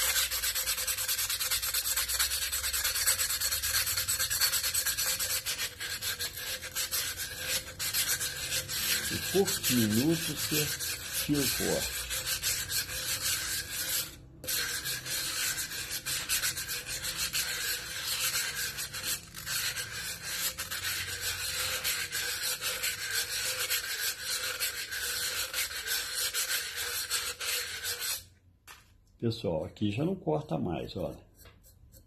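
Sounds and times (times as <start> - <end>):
sandpaper scraping glass: 0.0 - 28.3, 30.8 - 32.0.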